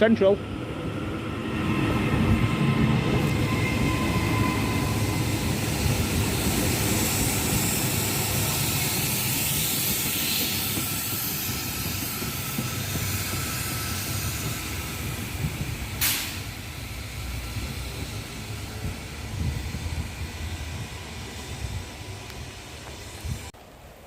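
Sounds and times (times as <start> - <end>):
train wheels rumbling: 0.0 - 23.5
rail noise hiss: 3.0 - 24.0.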